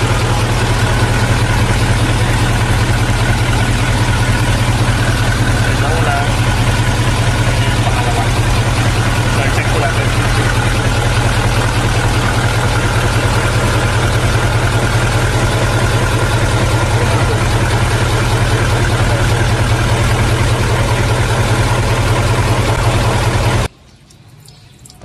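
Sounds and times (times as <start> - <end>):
diesel engine idling: 0.0 - 23.7.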